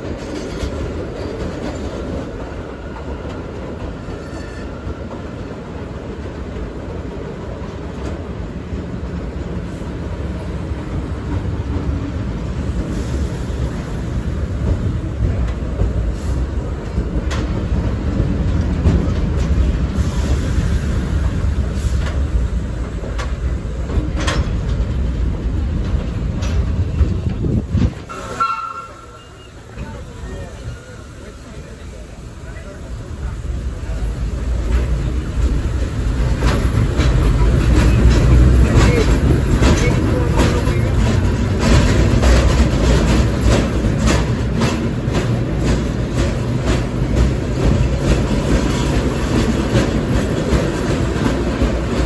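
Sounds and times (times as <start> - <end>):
subway train wheels rumbling: 0.0 - 52.0.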